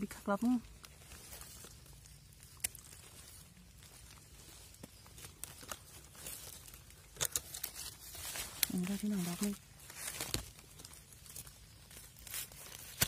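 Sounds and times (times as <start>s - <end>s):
dry leaves rustling: 0.0s - 13.0s
sharp leaf crackles: 0.0s - 13.0s.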